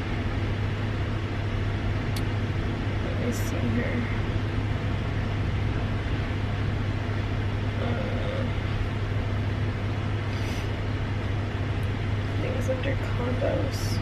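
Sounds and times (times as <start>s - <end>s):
truck idling hum: 0.0s - 14.0s.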